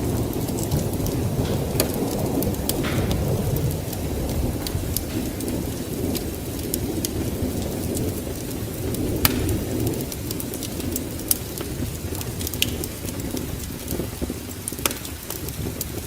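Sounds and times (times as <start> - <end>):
rain: 0.0 - 16.0
thunder rumbling: 0.0 - 16.0
wood fire crackling and popping: 0.0 - 16.0.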